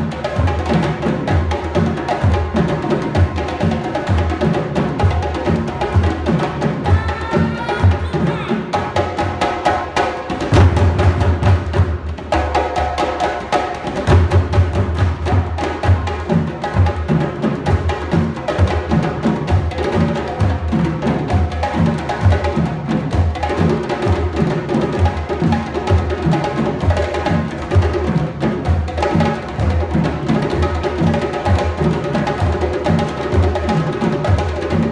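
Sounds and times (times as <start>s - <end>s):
hand drums playing fast rhythm: 0.0s - 34.9s.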